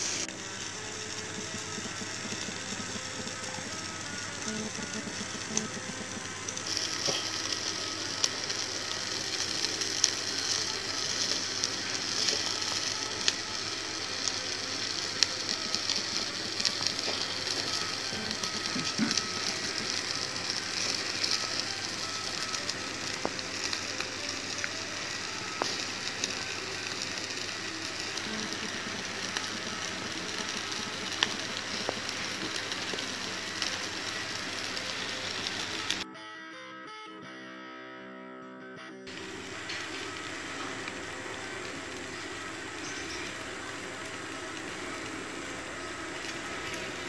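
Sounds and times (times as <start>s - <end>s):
charcoal crackles and pops: 0.0s - 36.0s, 39.1s - 47.0s
meat sizzling on a grill: 0.0s - 36.0s, 39.1s - 47.0s.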